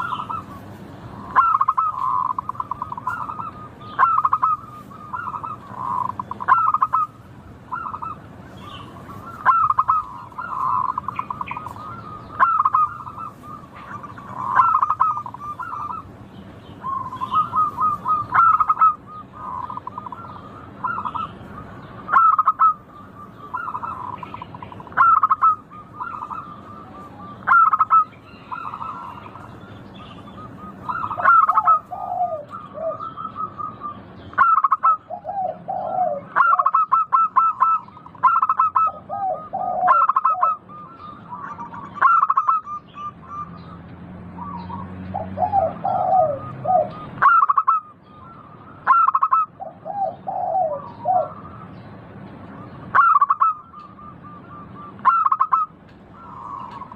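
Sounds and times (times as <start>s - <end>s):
dove trilled cooing: 0.0s - 16.2s, 16.8s - 51.8s, 52.5s - 56.9s
lower-pitched bird call: 0.0s - 56.9s.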